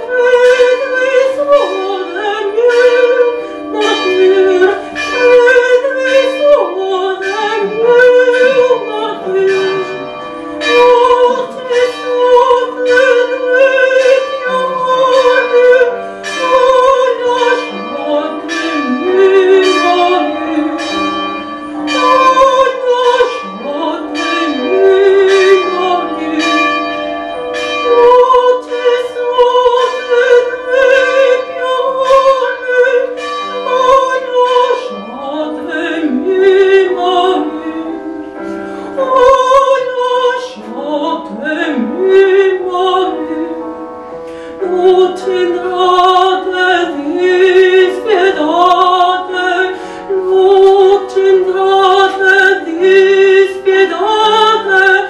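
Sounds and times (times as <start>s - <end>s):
countertenor singing: 0.0s - 38.4s, 44.6s - 55.0s.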